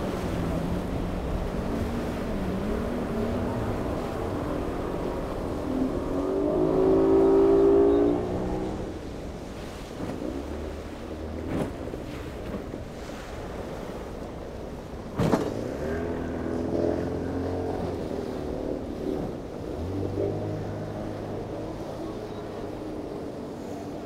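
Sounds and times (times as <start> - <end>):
rushing water: 0.0 - 24.0
wind: 0.0 - 24.0.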